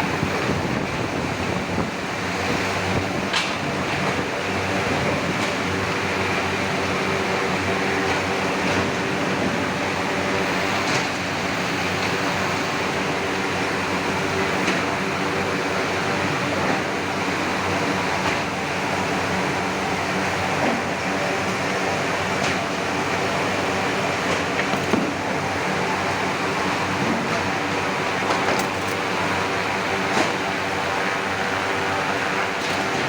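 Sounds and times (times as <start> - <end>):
industrial machinery drone: 0.0 - 33.0.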